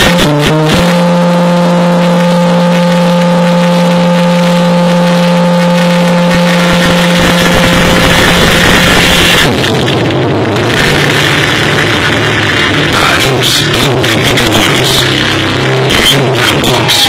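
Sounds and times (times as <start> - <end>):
car audio steady buzzing tone: 0.0 - 17.0.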